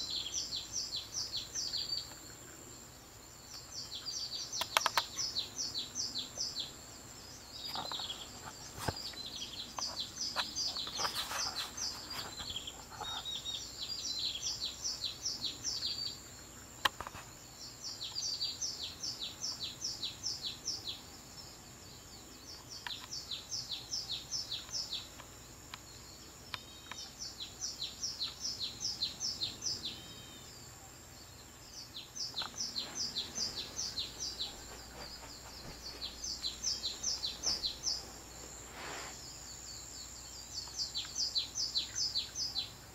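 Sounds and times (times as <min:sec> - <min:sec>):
songbird chirping: 0:00.0 - 0:42.9.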